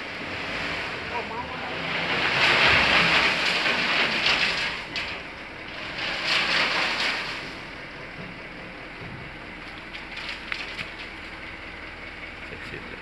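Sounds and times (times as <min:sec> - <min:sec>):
soil sliding from dump truck: 0:00.0 - 0:11.8.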